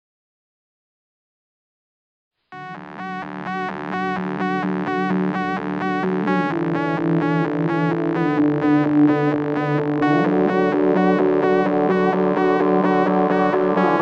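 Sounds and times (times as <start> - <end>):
pulsing electronic music: 2.6 - 14.0.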